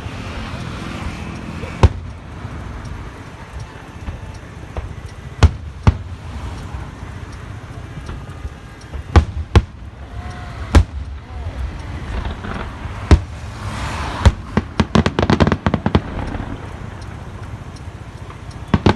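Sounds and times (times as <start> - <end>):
fireworks bursting: 0.0 - 18.9
low background noise: 0.0 - 18.9.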